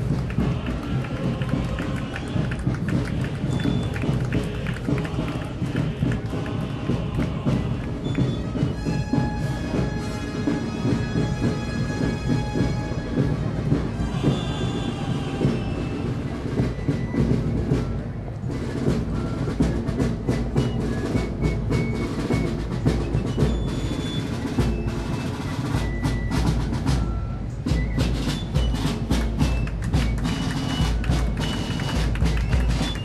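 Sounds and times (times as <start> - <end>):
parade drums playing: 0.0 - 33.0.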